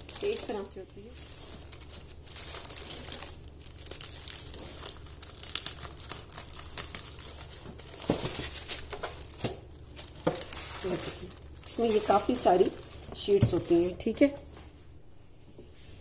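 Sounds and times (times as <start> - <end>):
pastry sheets crinkling: 0.0 - 14.8.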